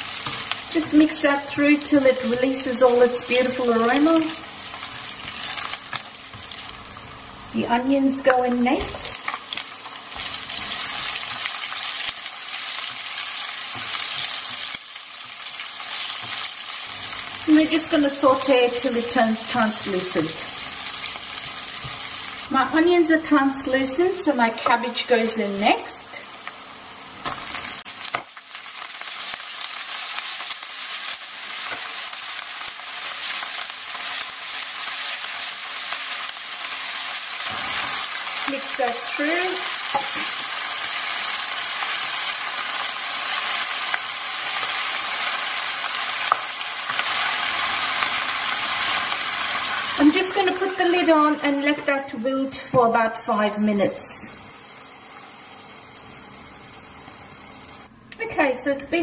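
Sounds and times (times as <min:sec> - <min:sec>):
onions sizzling in oil: 0:00.0 - 0:57.9.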